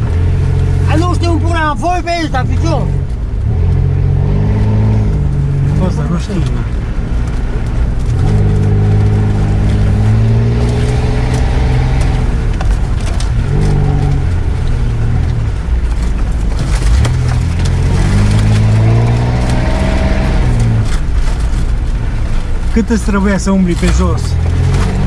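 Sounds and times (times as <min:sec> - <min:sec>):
engine revving from inside cab: 0:02.3 - 0:22.2, 0:23.9 - 0:25.0.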